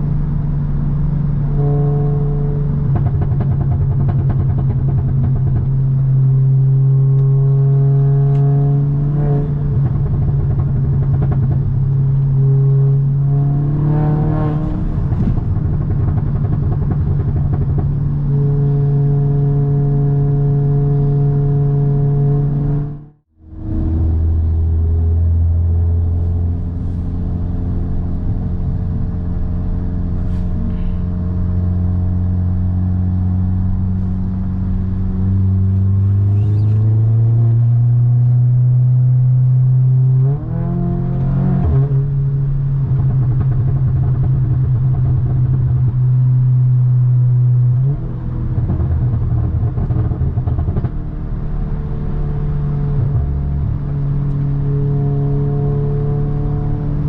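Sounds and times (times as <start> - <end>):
car engine and exhaust drone: 0.0 - 57.0.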